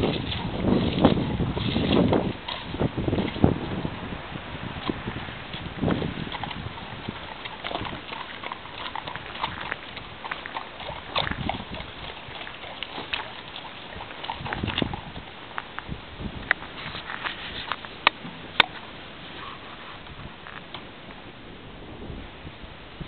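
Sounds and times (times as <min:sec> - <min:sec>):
horse hooves thudding: 0:00.0 - 0:21.5.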